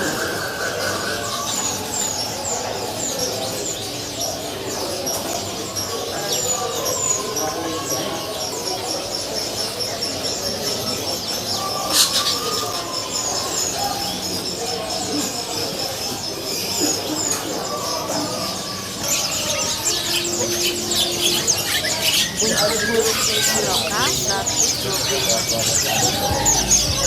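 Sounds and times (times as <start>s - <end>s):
caged songbirds chirping: 0.0s - 27.0s
murmur of voices: 0.0s - 27.0s.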